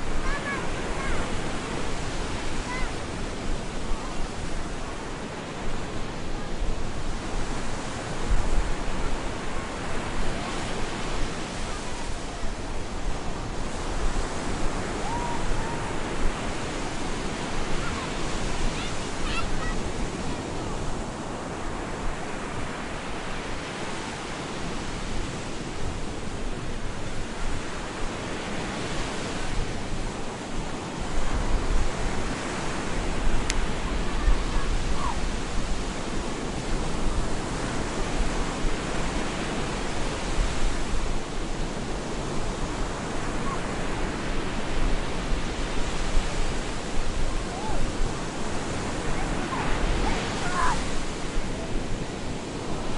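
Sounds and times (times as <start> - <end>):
stormy surf rushing: 0.0 - 52.9
waves breaking: 0.0 - 52.9.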